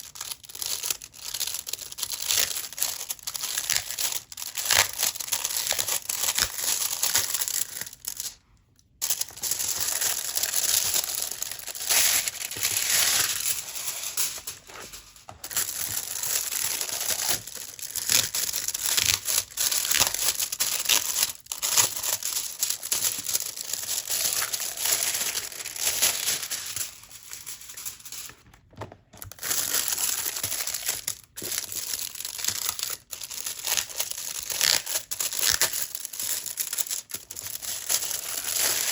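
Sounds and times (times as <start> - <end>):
packaging crinkling and tearing: 0.0 - 8.4, 9.0 - 28.4, 29.1 - 38.9.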